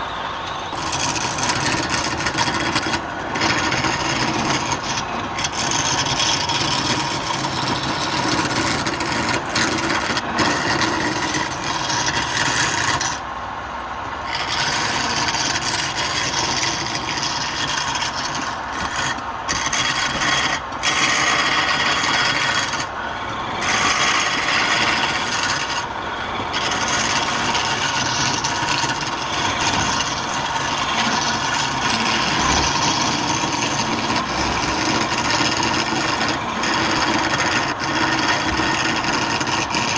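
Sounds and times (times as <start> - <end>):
tool scraping spinning wood: 0.0 - 13.3, 14.1 - 39.9
wood lathe running: 0.0 - 13.4, 14.1 - 39.9.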